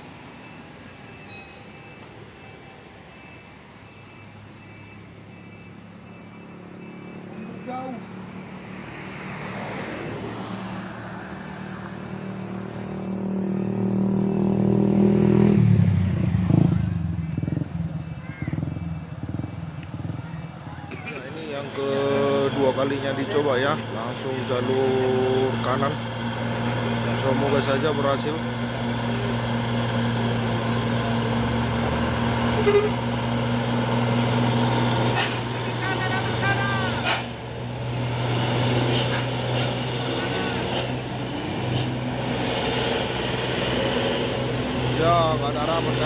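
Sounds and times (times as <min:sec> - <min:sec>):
truck diesel engine under load: 0:00.0 - 0:46.0.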